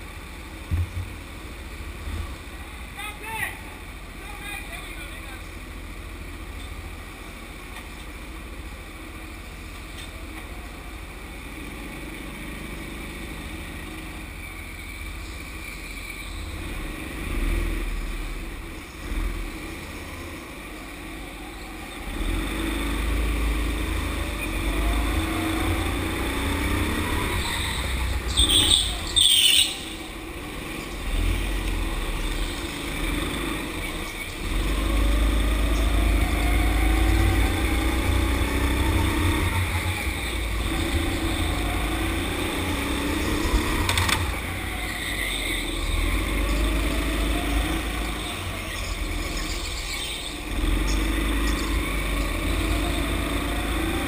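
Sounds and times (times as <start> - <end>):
go-kart engine accelerating: 0.0 - 54.0.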